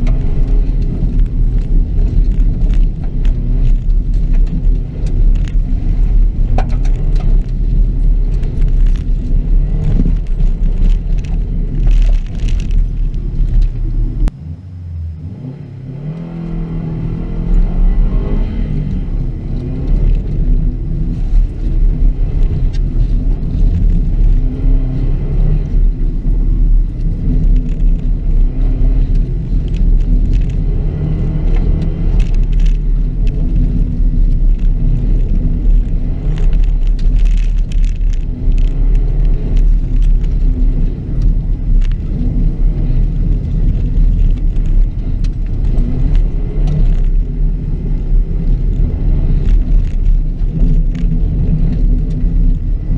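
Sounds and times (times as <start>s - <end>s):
gravel hitting car: 0.0s - 14.3s, 18.0s - 52.9s
car engine revving: 0.0s - 52.9s.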